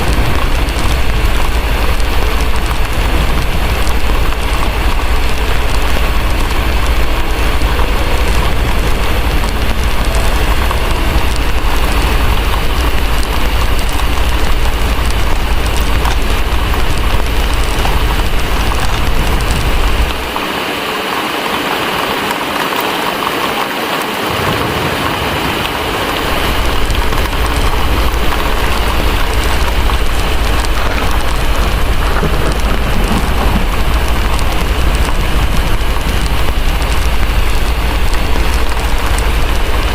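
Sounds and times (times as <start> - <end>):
deep low rumble: 0.0 - 20.4, 24.4 - 39.9
heavy rain: 0.0 - 39.9.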